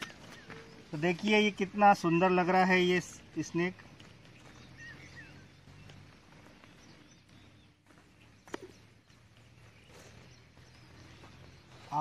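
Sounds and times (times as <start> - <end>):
faint bird chirps: 0.0 - 1.5, 3.2 - 12.0.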